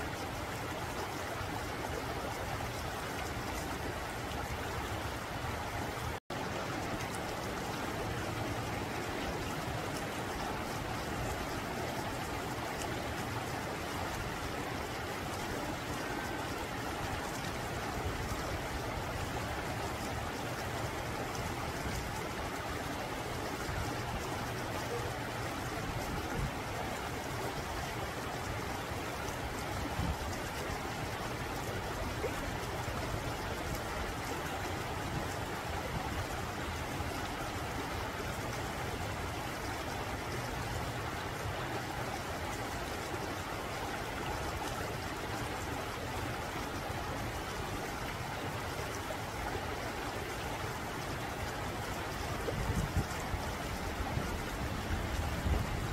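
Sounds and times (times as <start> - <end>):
stream flowing over rocks: 0.0 - 55.9.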